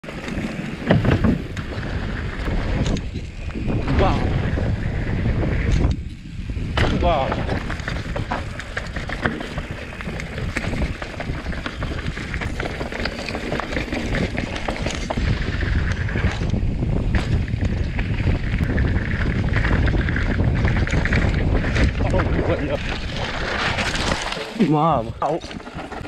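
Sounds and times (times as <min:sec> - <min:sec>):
bike knocking and rattling: 0:00.0 - 0:26.0
tyres rolling on gravel: 0:00.0 - 0:26.0
wind rushing over microphone: 0:00.0 - 0:26.0.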